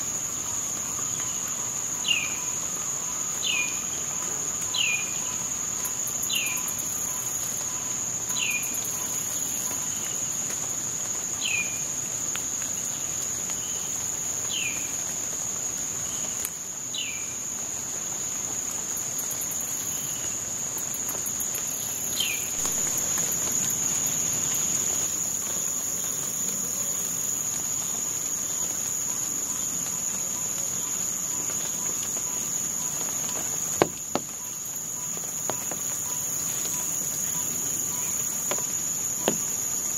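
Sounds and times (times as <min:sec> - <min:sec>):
insects droning: 0:00.0 - 0:39.9
water dripping through foliage: 0:00.0 - 0:39.9.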